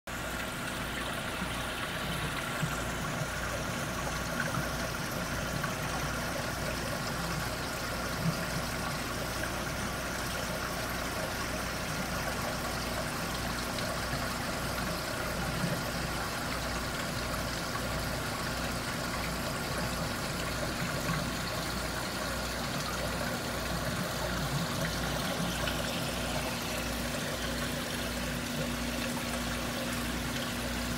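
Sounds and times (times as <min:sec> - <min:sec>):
aquarium pumps humming: 0:00.1 - 0:30.9.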